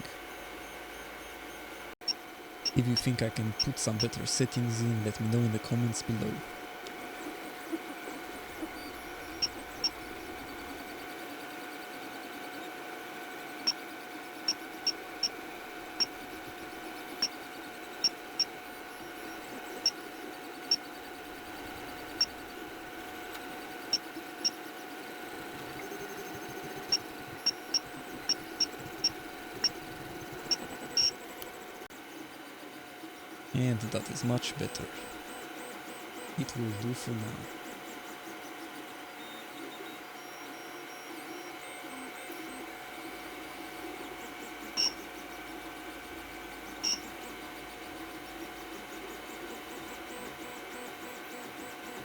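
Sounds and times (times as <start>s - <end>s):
printer motor hum: 0.0s - 52.0s.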